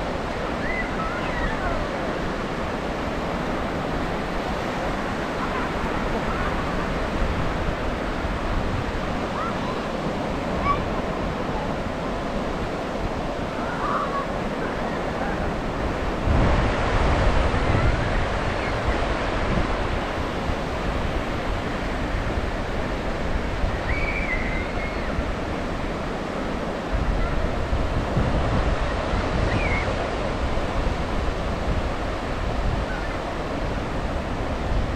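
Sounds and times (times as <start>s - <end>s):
ocean waves breaking on beach: 0.0s - 34.9s.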